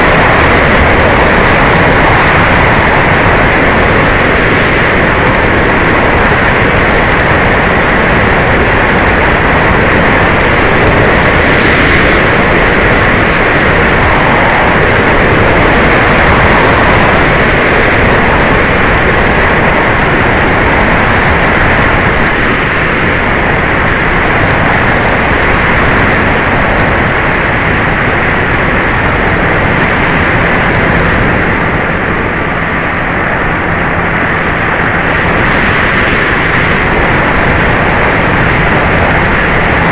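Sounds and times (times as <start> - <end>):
model plane motor and propeller: 0.0 - 39.9
rush of air: 0.0 - 39.9.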